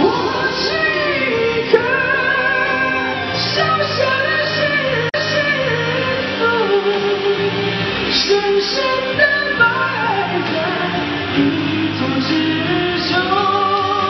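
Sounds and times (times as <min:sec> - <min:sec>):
instrumental backing track: 0:00.0 - 0:14.0
man singing into microphone: 0:00.0 - 0:14.0.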